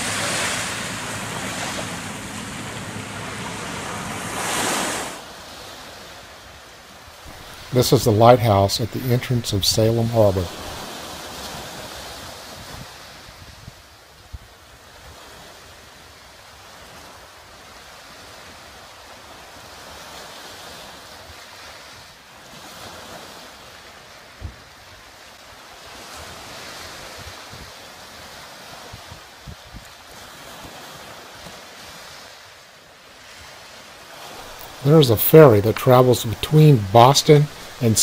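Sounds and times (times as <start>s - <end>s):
waves washing against rocky shore: 0.0s - 13.5s, 14.7s - 38.0s.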